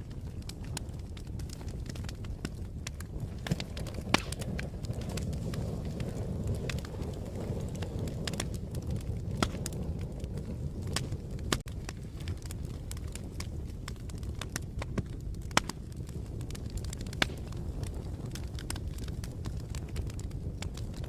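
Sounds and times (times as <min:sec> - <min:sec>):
fire pops and snaps: 0:00.0 - 0:21.0
wood fire crackling: 0:00.0 - 0:21.0.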